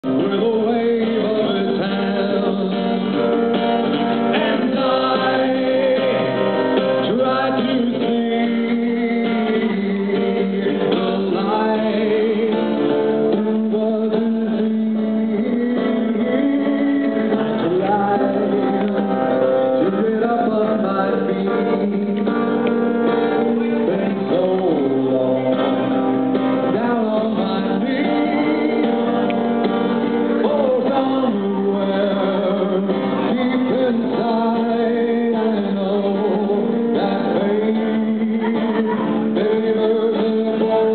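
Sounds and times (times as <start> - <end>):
acoustic guitar: 0.0 - 40.9
man singing: 0.0 - 40.9.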